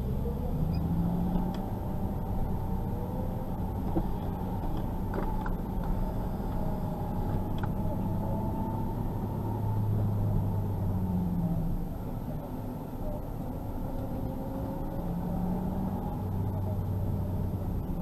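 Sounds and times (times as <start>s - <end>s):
car engine running at low revs: 0.0s - 18.0s.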